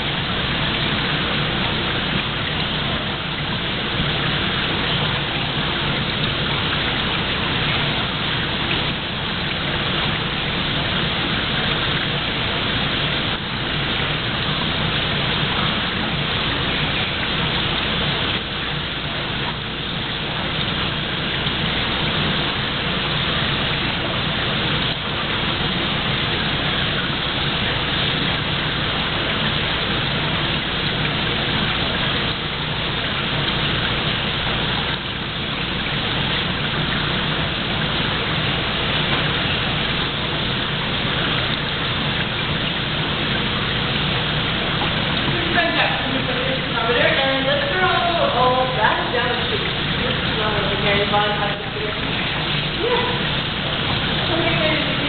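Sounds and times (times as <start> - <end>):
running water splashing: 0.0 - 55.0.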